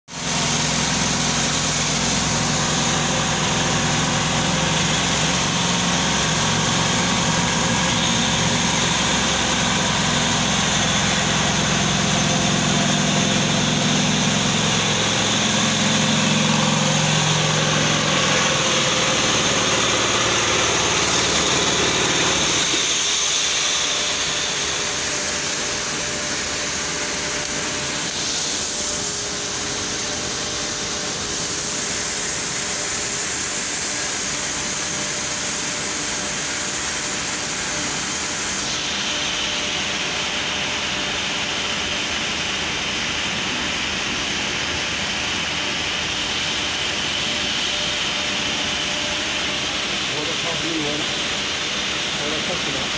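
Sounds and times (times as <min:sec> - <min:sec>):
drilling machine humming: 0:00.1 - 0:52.9
hissing rush of spraying metal: 0:00.2 - 0:52.9.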